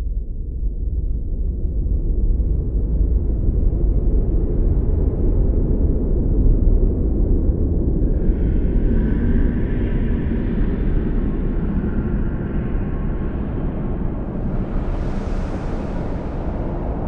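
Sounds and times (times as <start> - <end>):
deep storm rumble: 0.0 - 17.0.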